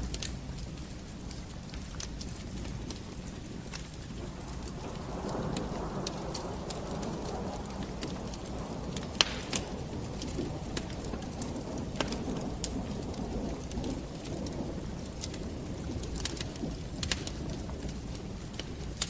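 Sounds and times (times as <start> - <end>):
fire crackling and popping: 0.0 - 19.0
wood fire burning: 0.0 - 19.0.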